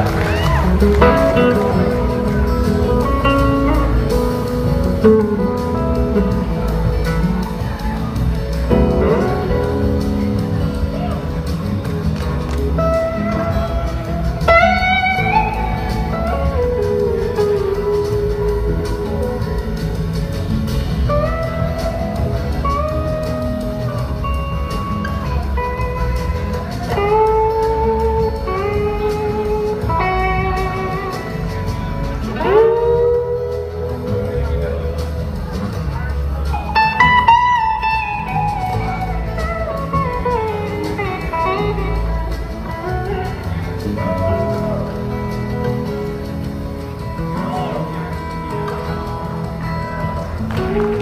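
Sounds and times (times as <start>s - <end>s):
bass and drums: 0.0s - 51.0s
lead guitar melody: 0.0s - 51.0s
live rock band playing: 0.0s - 51.0s.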